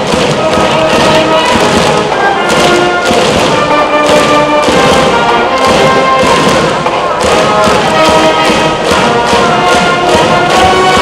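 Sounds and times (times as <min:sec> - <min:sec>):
beaten drums: 0:00.0 - 0:11.0
brass band playing: 0:00.0 - 0:11.0.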